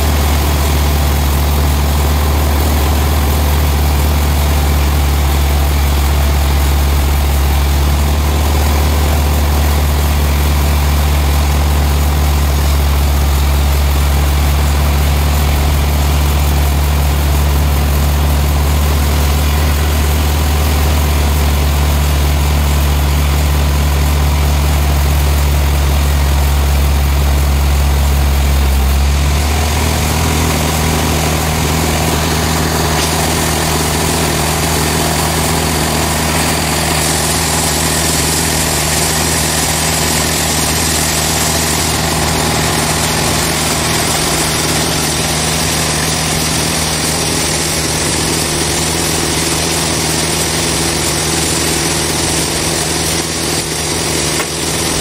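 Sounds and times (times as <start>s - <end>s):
band sawmill humming: 0.0s - 55.0s.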